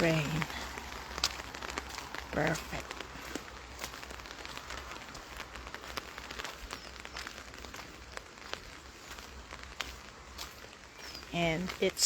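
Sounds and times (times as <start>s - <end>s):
rain falling steadily: 0.0s - 12.0s
raindrops ticking: 0.0s - 12.0s.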